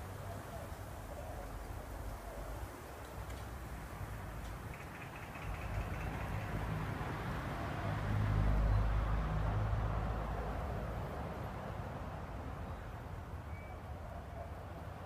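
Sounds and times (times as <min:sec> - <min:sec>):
distant vehicle engine hum: 0:00.0 - 0:15.0.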